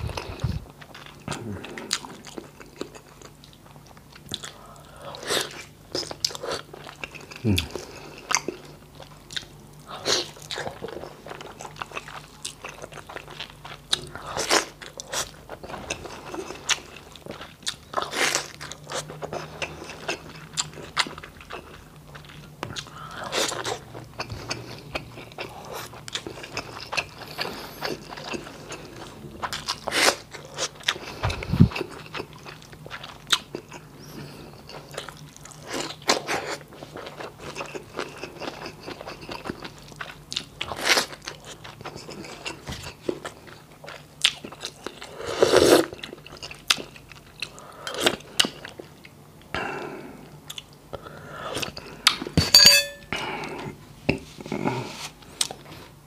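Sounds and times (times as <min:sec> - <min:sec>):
chewing and lip-smacking: 0:00.0 - 0:45.2, 0:45.8 - 0:49.6, 0:50.3 - 0:52.3.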